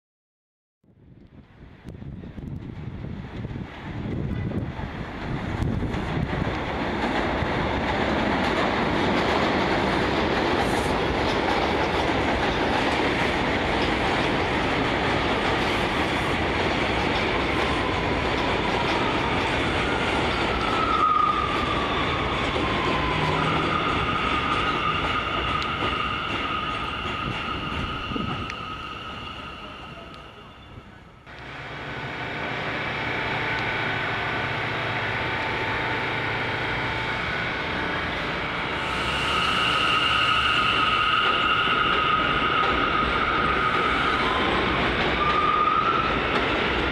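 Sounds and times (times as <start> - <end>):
train hum: 0.9 - 46.9
train wheels on rails: 1.2 - 46.9.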